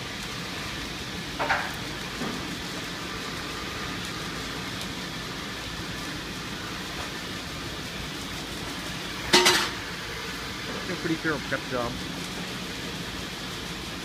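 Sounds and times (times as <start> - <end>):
car wash brushes and water: 0.0 - 14.0.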